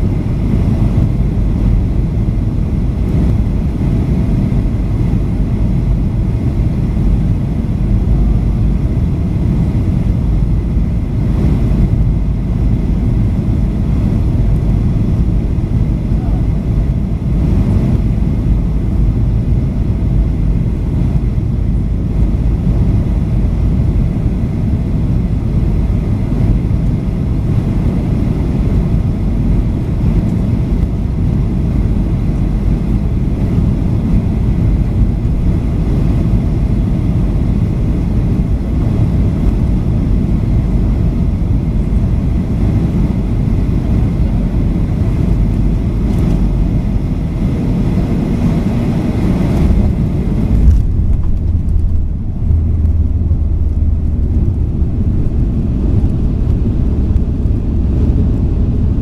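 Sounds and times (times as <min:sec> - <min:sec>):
airplane cabin rumble: 0:00.0 - 0:59.0
faint steady whine: 0:00.0 - 0:59.0.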